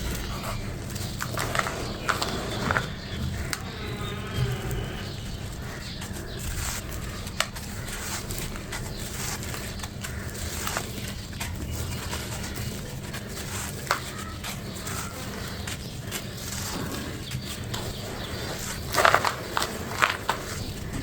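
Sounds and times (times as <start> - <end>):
crumble blocks crunching: 0.0 - 21.0
steady low hum: 0.0 - 21.0.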